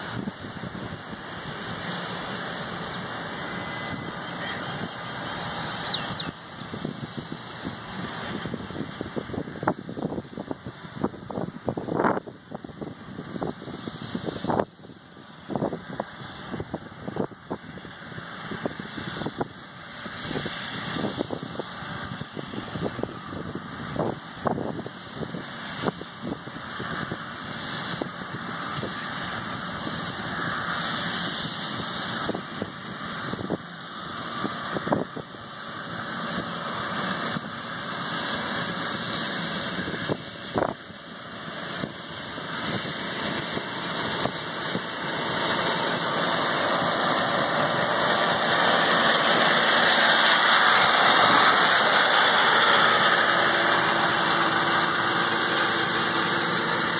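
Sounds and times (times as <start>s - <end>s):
ride-on mower engine running: 0.0s - 56.9s.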